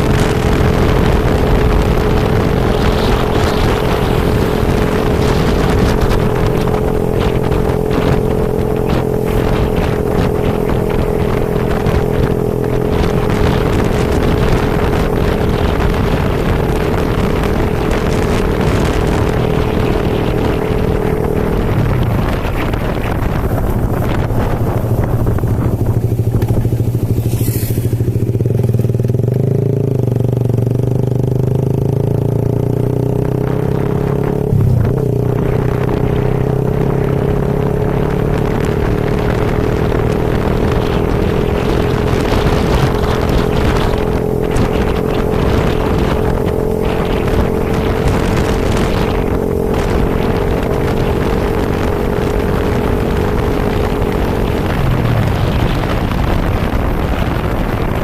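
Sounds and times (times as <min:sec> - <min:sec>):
rushing noise: 0:00.0 - 0:29.2, 0:33.4 - 0:50.5, 0:51.6 - 0:58.0
motorcycle engine running: 0:00.0 - 0:58.0.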